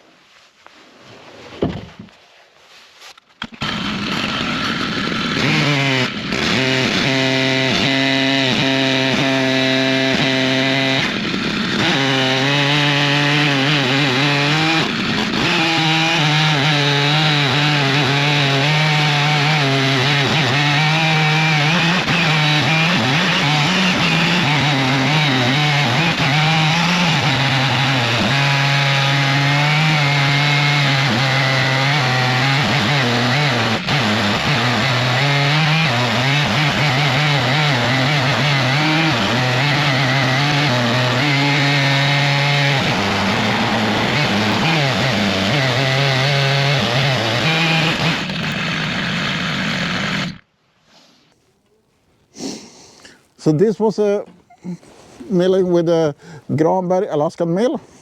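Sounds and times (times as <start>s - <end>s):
chainsaw cutting through log: 3.4s - 51.5s, 52.3s - 58.0s.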